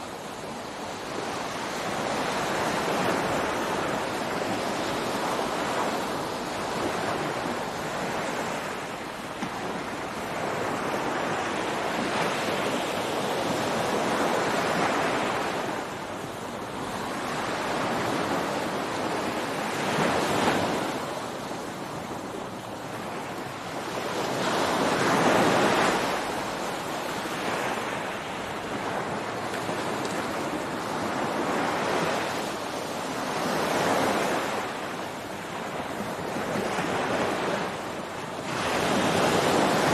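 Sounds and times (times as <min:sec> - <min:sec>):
ocean surf breaking: 0:01.1 - 0:39.9.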